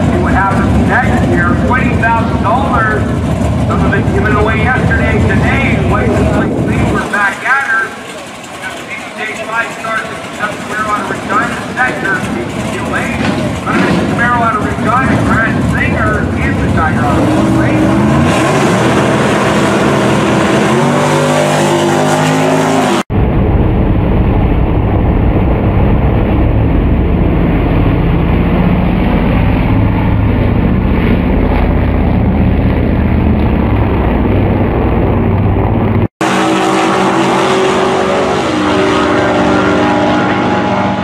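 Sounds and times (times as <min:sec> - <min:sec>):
deep muffled engine noise: 0:00.0 - 0:20.9, 0:23.0 - 0:41.0
car engine accelerating: 0:00.0 - 0:23.1, 0:24.6 - 0:41.0
race car engine revving: 0:00.0 - 0:23.1, 0:25.5 - 0:41.0.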